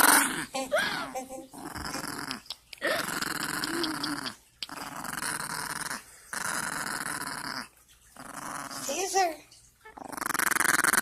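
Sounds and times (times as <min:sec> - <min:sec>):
dog growling: 0:00.0 - 0:09.2, 0:09.9 - 0:11.0.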